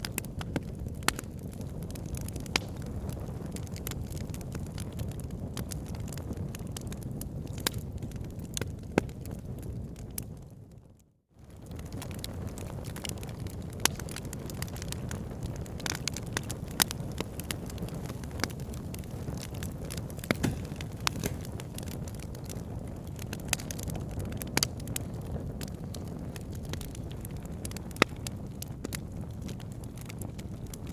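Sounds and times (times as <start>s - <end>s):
fire crackling and popping: 0.0s - 30.9s
fire rumbling in fireplace: 0.0s - 30.9s.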